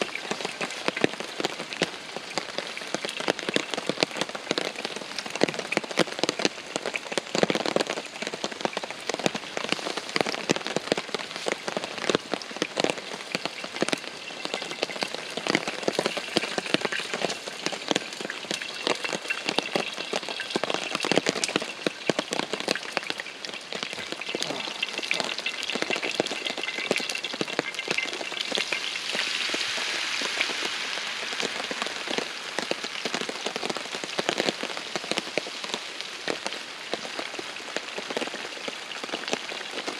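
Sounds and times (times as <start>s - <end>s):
heavy rain on a tarp: 0.0s - 39.9s.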